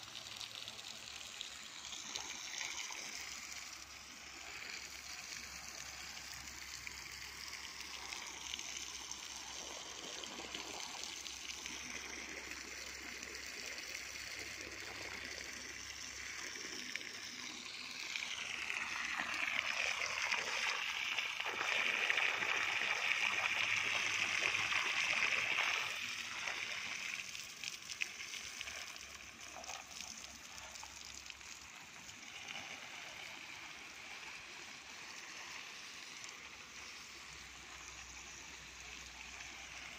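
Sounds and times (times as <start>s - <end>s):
hose water splashing: 0.0s - 39.9s.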